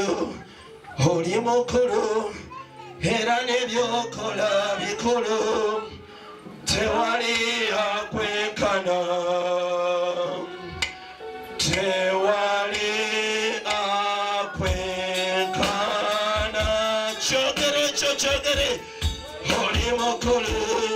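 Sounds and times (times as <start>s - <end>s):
man singing gospel song: 0.0s - 10.8s, 11.6s - 20.9s
backing singers: 0.0s - 20.9s.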